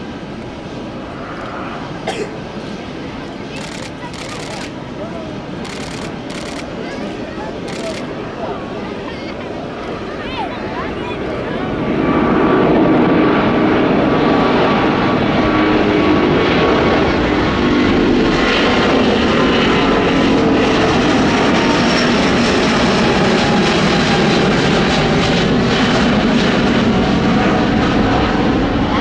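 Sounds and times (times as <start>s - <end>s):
jet engines roaring overhead: 0.0s - 29.0s.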